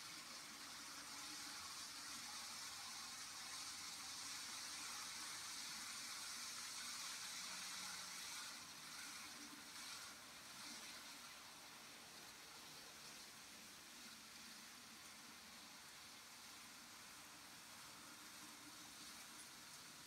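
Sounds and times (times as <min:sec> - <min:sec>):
model train whirring on track: 0:00.0 - 0:20.0.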